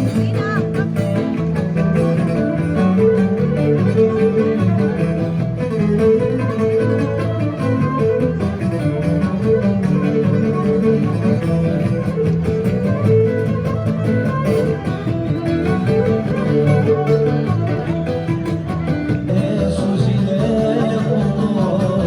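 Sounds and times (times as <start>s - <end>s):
bowed string melody: 0.0s - 22.0s
plucked strummed strings: 0.0s - 22.0s.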